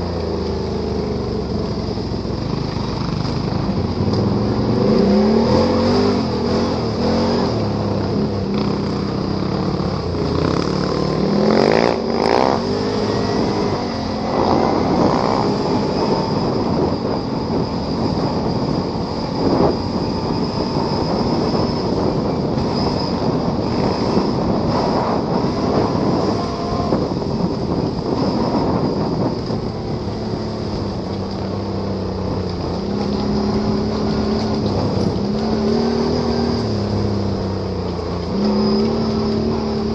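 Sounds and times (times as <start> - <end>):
high whine: 0.0 - 39.9
quad bike engine revving: 0.0 - 39.9.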